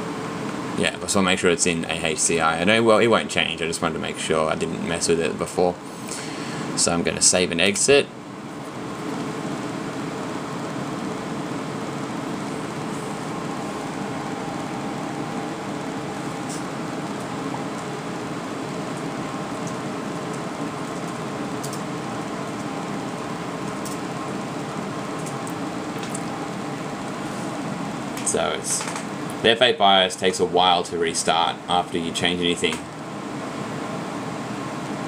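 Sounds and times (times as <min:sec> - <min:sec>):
computer cooling fans humming: 0:00.0 - 0:35.0.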